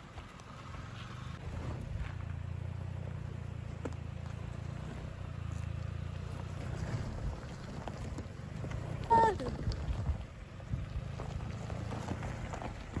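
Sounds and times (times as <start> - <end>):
car engine low rumble: 0.0 - 13.0
tyres on gravel: 0.0 - 13.0.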